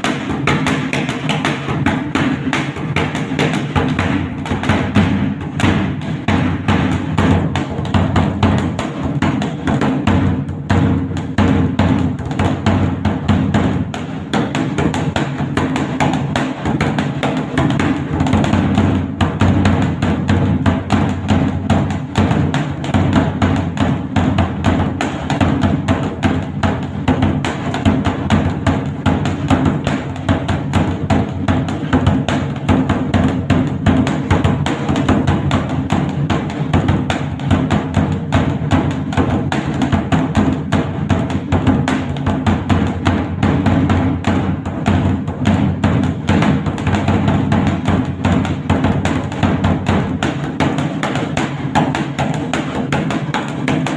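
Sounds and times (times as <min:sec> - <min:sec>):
barrel drum beaten with sticks: 0:00.0 - 0:53.9.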